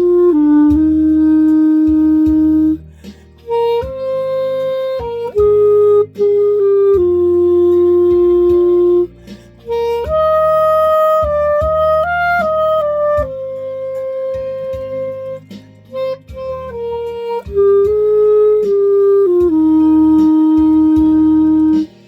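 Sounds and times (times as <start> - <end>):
clarinet melody: 0.0 - 22.0
quiet accompaniment: 0.0 - 22.0.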